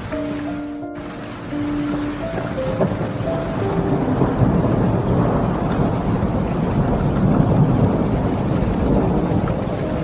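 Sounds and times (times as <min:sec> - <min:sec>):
steady rainfall: 0:00.0 - 0:10.0
thunder rumbling: 0:01.0 - 0:10.0.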